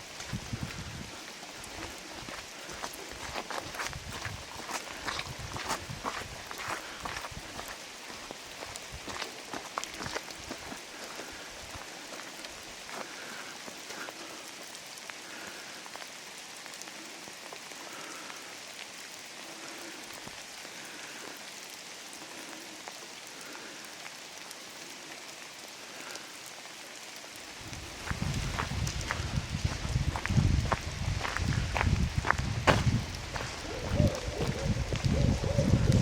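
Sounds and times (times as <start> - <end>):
steady rain hiss: 0.0 - 36.0
raindrops ticking: 1.1 - 36.0.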